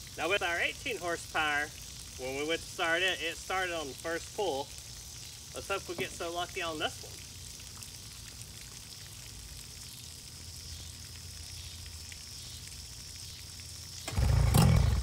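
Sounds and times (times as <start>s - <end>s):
water running from hose: 0.0s - 15.0s.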